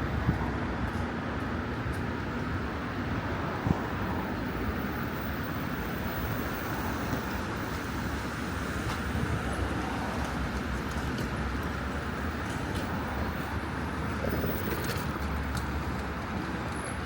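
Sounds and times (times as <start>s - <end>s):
vehicle rumble with hiss: 0.0s - 17.0s.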